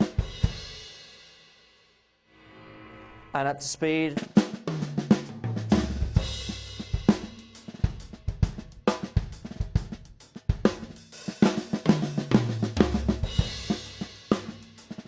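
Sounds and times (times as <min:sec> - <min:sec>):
drum kit playing: 0:00.0 - 0:01.2, 0:03.9 - 0:15.0.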